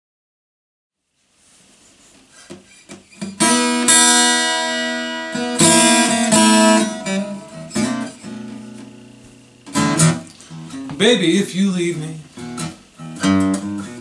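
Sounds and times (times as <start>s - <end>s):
acoustic guitar blues playing: 2.5s - 14.0s.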